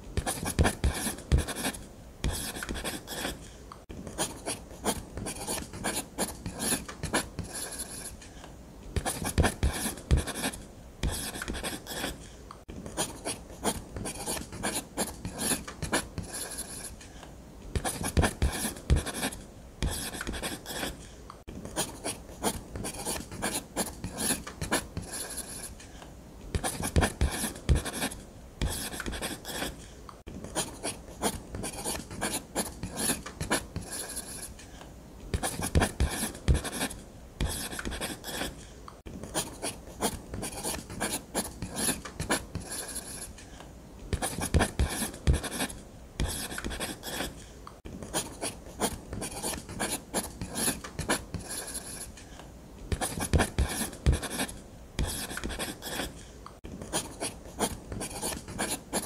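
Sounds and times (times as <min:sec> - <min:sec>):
pen scratching on paper: 0:00.2 - 0:03.5, 0:04.1 - 0:08.2, 0:09.0 - 0:12.2, 0:12.8 - 0:17.0, 0:17.7 - 0:21.1, 0:21.7 - 0:25.8, 0:26.5 - 0:29.8, 0:30.4 - 0:34.6, 0:35.3 - 0:38.6, 0:39.3 - 0:43.4, 0:44.1 - 0:47.4, 0:48.1 - 0:52.1, 0:52.9 - 0:56.2, 0:56.8 - 0:59.0.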